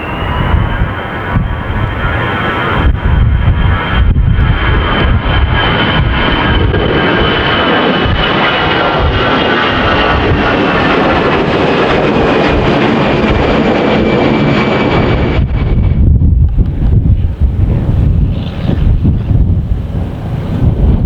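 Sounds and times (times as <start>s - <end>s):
jet engines whining and rumbling: 0.0s - 21.0s
wind buffeting microphone: 0.0s - 21.0s.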